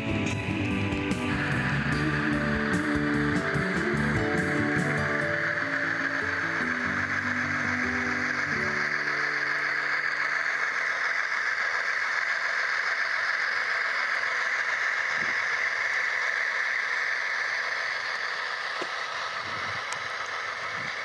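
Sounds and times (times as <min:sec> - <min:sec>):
model train rolling on rails: 0:00.0 - 0:21.0.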